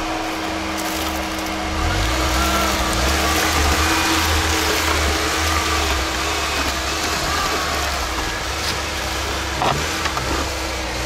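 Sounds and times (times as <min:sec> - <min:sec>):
car engine pulling under load: 0:00.0 - 0:11.0.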